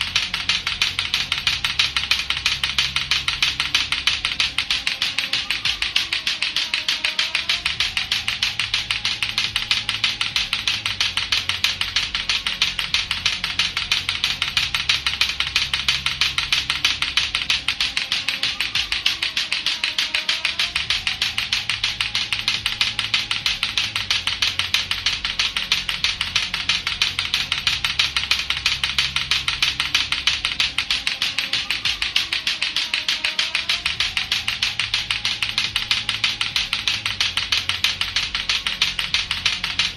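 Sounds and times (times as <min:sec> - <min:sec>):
clacker balls knocking together: 0:00.0 - 0:39.9
low backing loop: 0:00.0 - 0:39.9.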